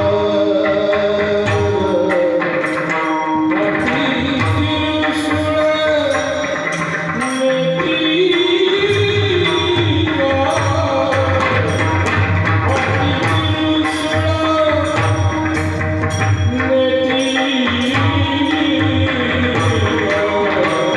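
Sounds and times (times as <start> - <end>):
jingling percussion: 0.0 - 20.9.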